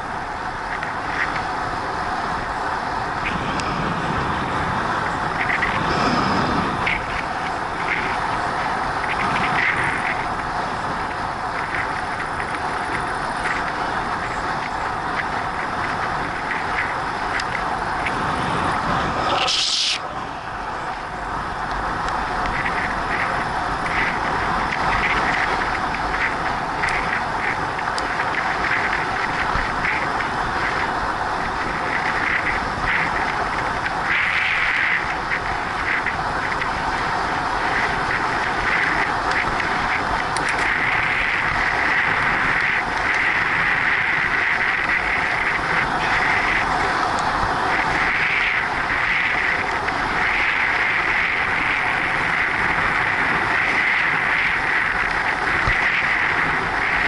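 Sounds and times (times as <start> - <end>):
tyre noise on asphalt: 0.0 - 57.0
wind rushing over microphone: 0.0 - 57.0.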